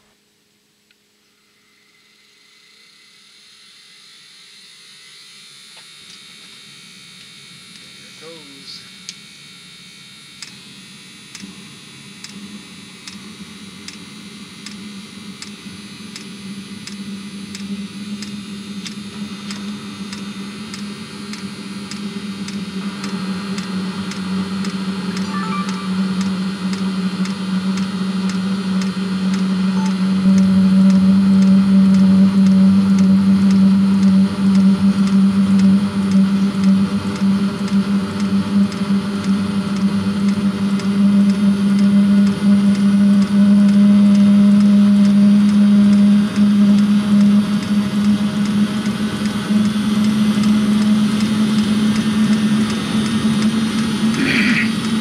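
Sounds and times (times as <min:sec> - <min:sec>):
heater whoosh and hum: 0:00.0 - 0:55.0.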